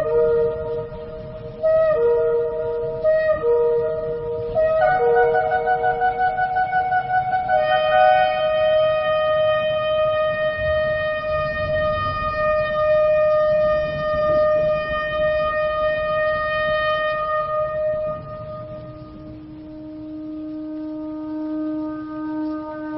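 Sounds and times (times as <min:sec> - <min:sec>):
shofar long note: 0:00.0 - 0:22.9.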